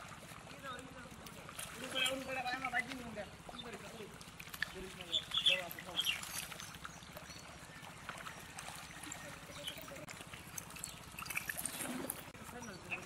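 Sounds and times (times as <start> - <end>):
fish flapping in water: 0.0 - 13.0
water splashing and trickling: 0.0 - 13.0.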